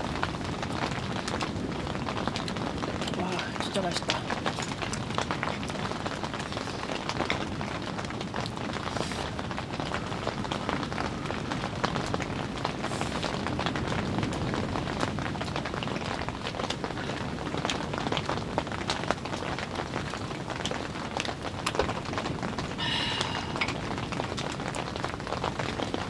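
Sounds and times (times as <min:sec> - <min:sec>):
rain falling on a surface: 0:00.0 - 0:26.0.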